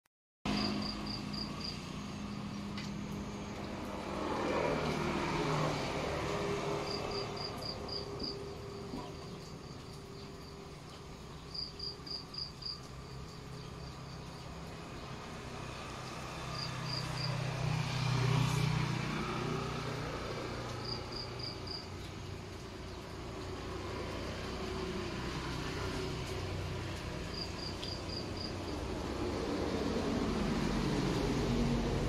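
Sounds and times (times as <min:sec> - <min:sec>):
insect chirps: 0:00.5 - 0:31.6
vehicles passing: 0:00.5 - 0:32.0.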